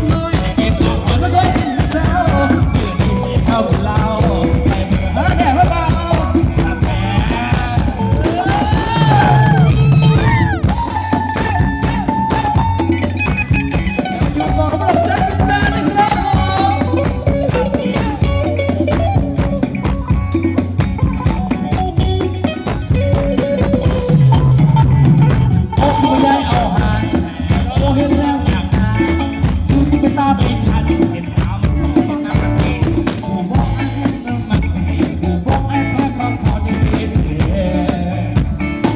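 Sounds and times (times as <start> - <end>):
live dance band music: 0.0 - 38.9.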